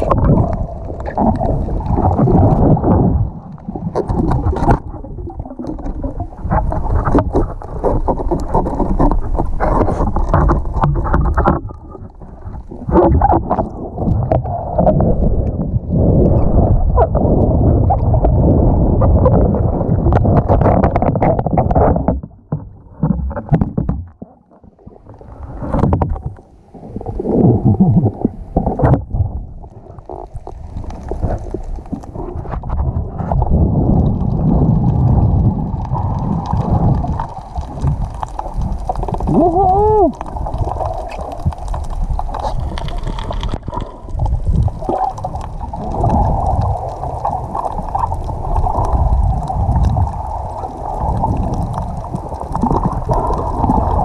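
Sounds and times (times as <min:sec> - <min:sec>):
underwater rumble with knocks: 0:00.0 - 0:54.0
water rushing against camera: 0:00.0 - 0:54.0.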